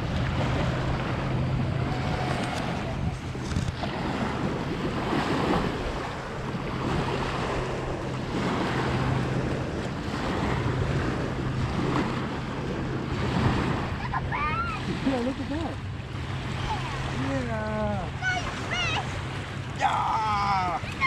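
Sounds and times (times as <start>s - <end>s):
low steady hum: 0.0s - 21.0s
wind gusts on microphone: 0.0s - 21.0s.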